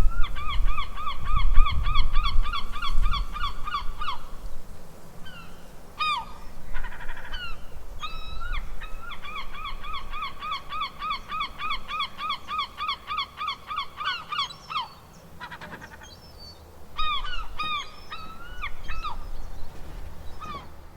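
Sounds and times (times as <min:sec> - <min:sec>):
seagulls calling: 0:00.0 - 0:04.4, 0:05.2 - 0:20.9.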